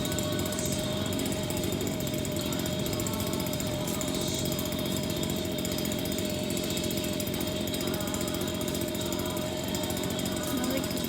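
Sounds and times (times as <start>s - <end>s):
small engine droning and whining: 0.0s - 11.0s.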